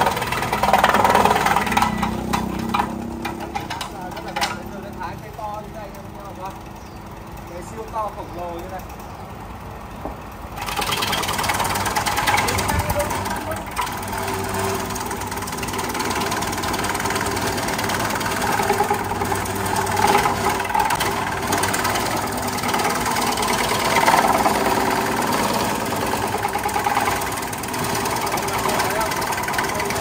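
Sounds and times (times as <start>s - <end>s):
slicing machine clattering whir: 0.0s - 6.7s, 10.4s - 30.0s.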